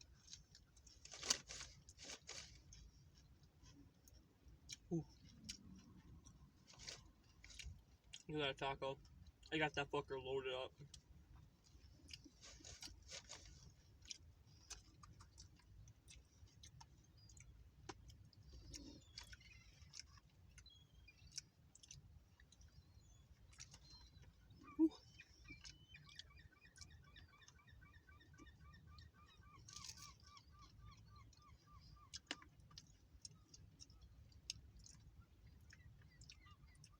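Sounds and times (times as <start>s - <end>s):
chewing hard taco shell: 0.0s - 8.3s, 10.8s - 36.9s.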